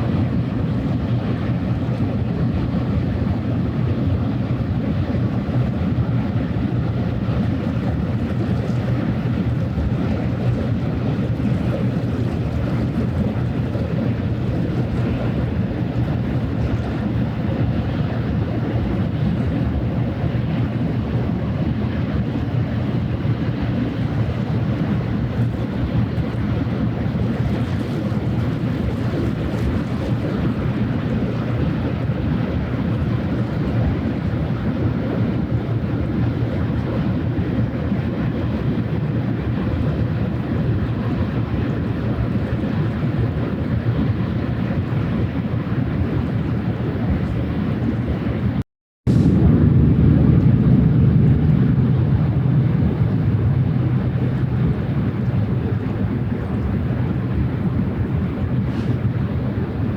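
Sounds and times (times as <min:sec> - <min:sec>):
ship diesel engine droning: 0:00.0 - 0:59.9
water noise: 0:00.0 - 0:59.9
wind: 0:00.0 - 0:59.9.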